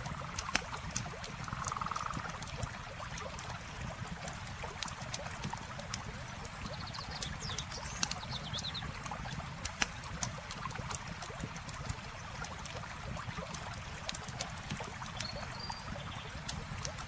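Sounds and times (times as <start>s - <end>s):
campfire crackling and popping: 0.0s - 17.0s
river water trickling: 0.0s - 17.0s.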